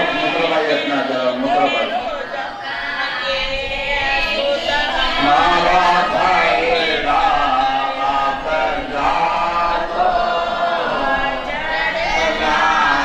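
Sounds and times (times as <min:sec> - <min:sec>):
voices chanting a devotional song: 0:00.0 - 0:13.0.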